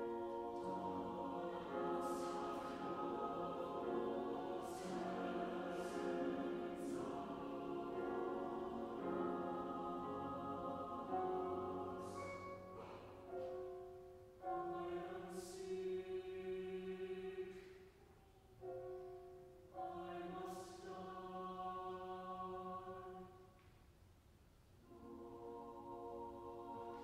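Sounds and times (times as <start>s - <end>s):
mixed choir singing: 0.0s - 13.2s, 14.5s - 17.6s, 19.8s - 23.4s, 24.9s - 27.0s.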